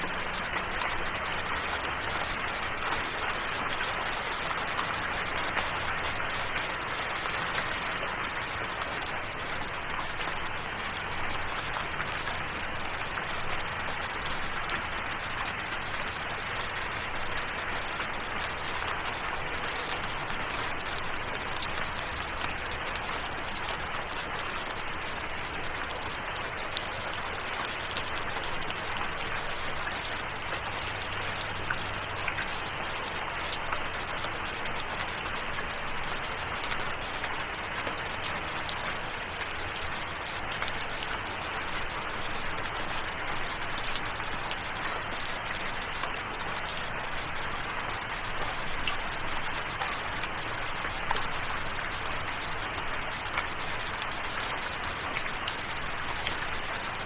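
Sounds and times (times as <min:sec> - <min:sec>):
raindrops ticking: 0:00.0 - 0:56.7
steady rainfall: 0:00.0 - 0:57.0.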